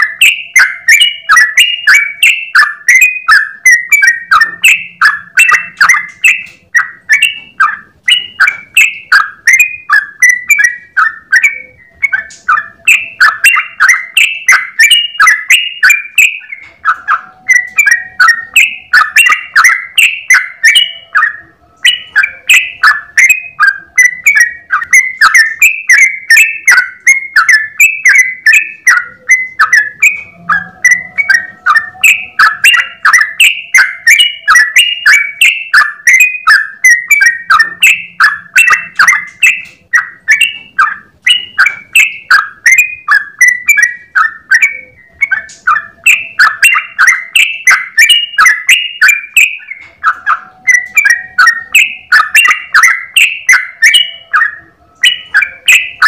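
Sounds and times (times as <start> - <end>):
bird singing bubbly chirps: 0.0 - 56.0.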